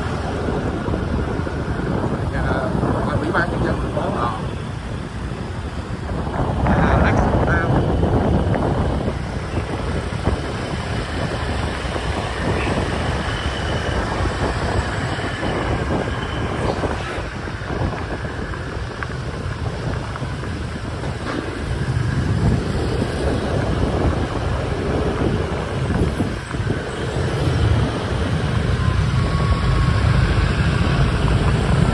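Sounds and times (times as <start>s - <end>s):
city street traffic: 0.0s - 31.9s
wind on microphone: 0.0s - 31.9s.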